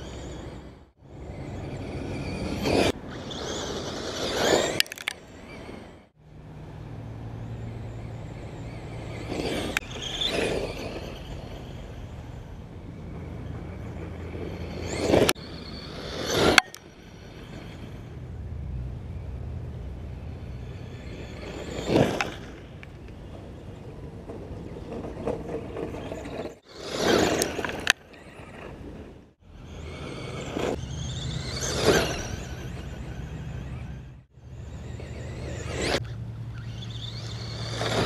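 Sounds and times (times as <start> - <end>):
rc truck motor whining: 0.0 - 38.0.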